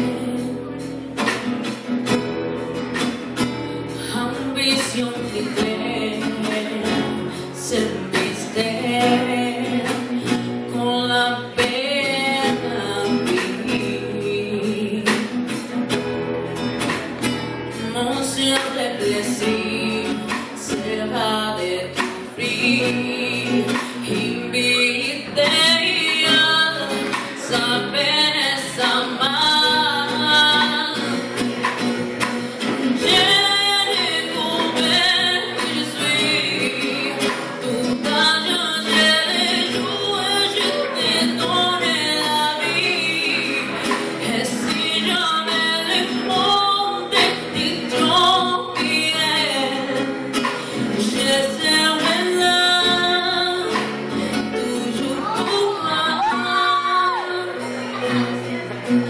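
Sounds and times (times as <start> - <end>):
girl singing into microphone: 0.0 - 1.4, 3.8 - 16.1, 17.7 - 31.5, 32.4 - 59.0
acoustic guitar: 0.0 - 59.0.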